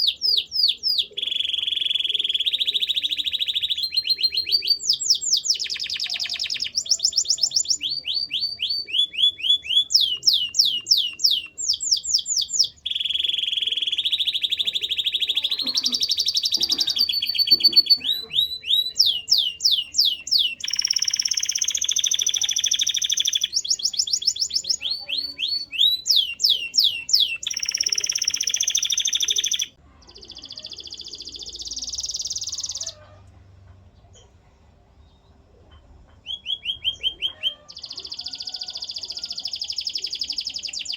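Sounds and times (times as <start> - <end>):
canary singing trills: 0.0 - 33.2, 35.8 - 40.9.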